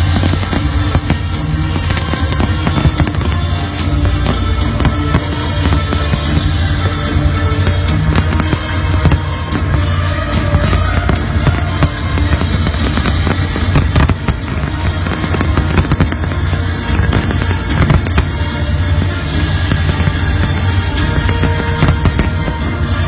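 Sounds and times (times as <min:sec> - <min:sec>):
fireworks crackling and popping: 0:00.0 - 0:23.0
loud background music: 0:00.0 - 0:23.0.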